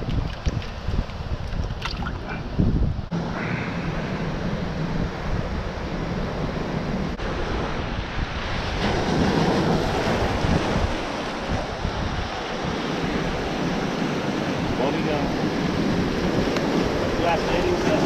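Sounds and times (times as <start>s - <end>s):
wind buffeting microphone: 0.0s - 18.0s
surf washing over boulders: 3.1s - 18.0s.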